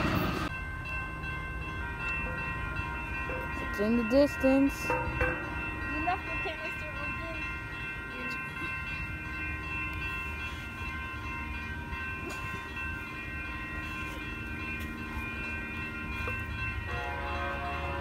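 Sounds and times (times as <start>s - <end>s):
crossing warning bells ringing: 0.0s - 18.0s
diesel train rumble: 0.0s - 18.0s.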